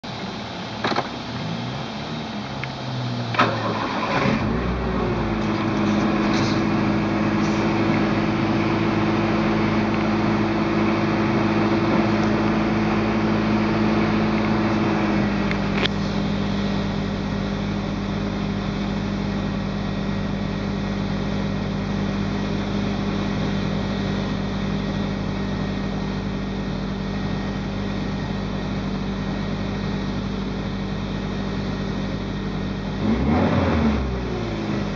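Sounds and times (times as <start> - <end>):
car engine starting and idling: 0.0 - 34.9.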